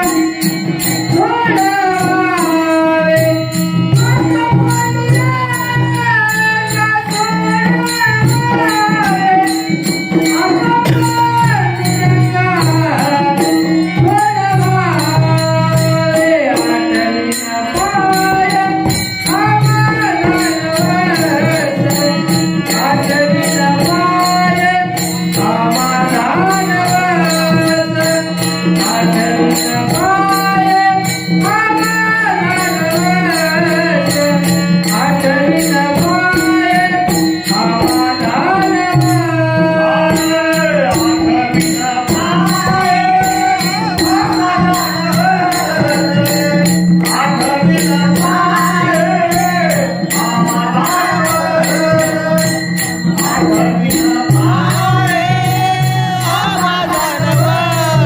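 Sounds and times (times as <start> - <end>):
harmonium drone: 0.0 - 58.0
jingling hand percussion: 0.0 - 58.0
person singing: 0.0 - 58.0.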